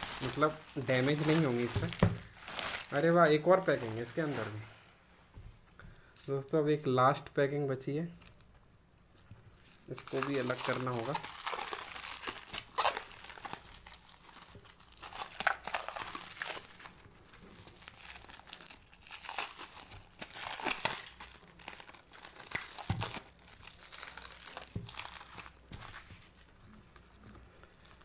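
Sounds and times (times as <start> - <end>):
plastic wrap crinkling: 0.0 - 4.8, 7.9 - 28.0.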